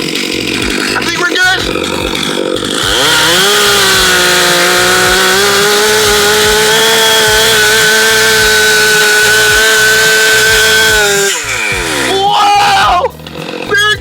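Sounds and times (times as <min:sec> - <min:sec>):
chainsaw cutting tree trunk: 0:00.0 - 0:14.0.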